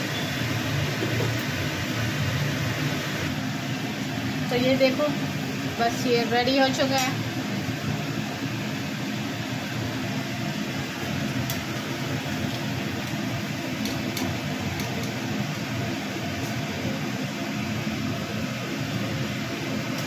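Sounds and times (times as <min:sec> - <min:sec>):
fries sizzling in hot oil: 0:00.0 - 0:20.0.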